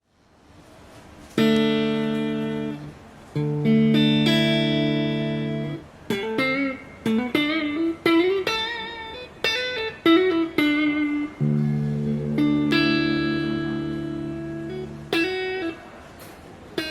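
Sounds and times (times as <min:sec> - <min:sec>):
electric guitar chords and notes: 0:01.4 - 0:15.9.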